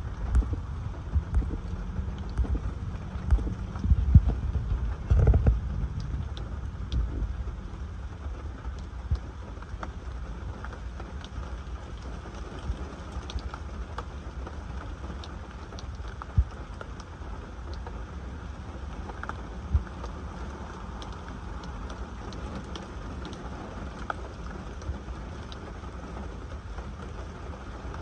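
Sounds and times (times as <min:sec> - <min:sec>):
raindrops ticking on car: 0:00.0 - 0:28.0
steady low rumble: 0:00.0 - 0:28.0.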